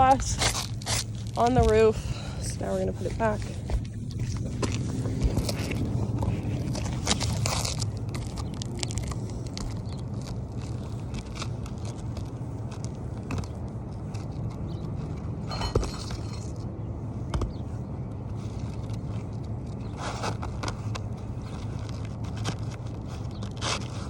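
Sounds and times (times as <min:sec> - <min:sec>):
low hum: 0:00.0 - 0:24.0
shingle ticks and scrapes: 0:00.0 - 0:24.0.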